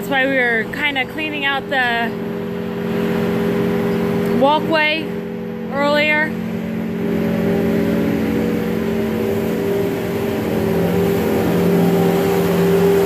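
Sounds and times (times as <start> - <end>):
loader engine running: 0.0 - 13.0.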